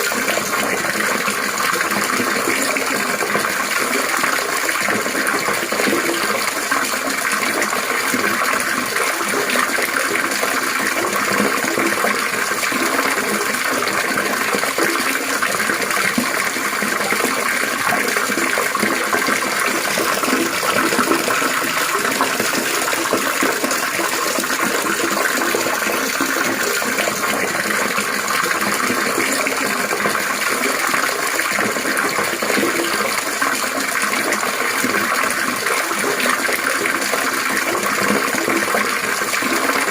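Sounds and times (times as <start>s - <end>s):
running water trickling and splashing: 0.0s - 39.9s.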